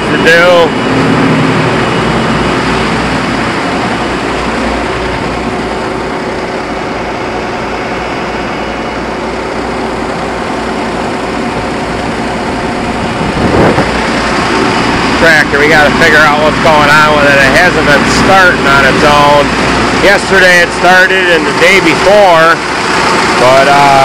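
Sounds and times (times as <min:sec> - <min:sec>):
grain auger machinery noise: 0:00.0 - 0:24.0
tractor engine idling: 0:00.0 - 0:24.0.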